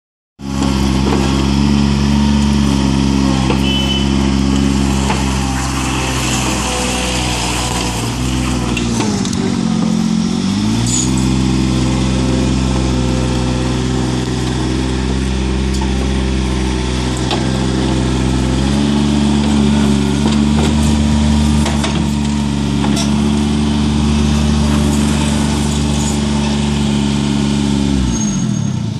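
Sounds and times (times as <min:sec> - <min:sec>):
skid steer engine running: 0:00.4 - 0:28.9.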